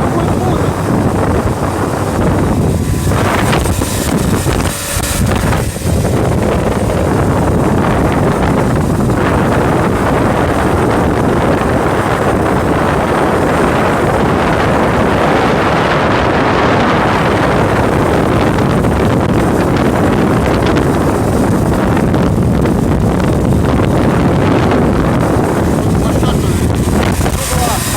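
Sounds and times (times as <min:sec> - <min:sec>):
motorboat engine: 0:00.0 - 0:27.9
rushing water: 0:00.0 - 0:27.9
wind buffeting microphone: 0:00.0 - 0:27.9.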